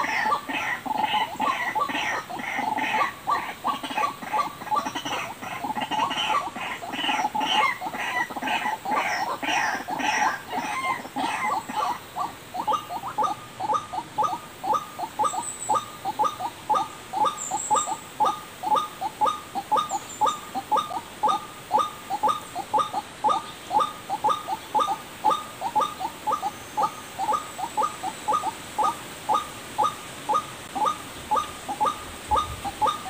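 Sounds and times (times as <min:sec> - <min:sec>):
waterhen calling: 0:00.0 - 0:33.0.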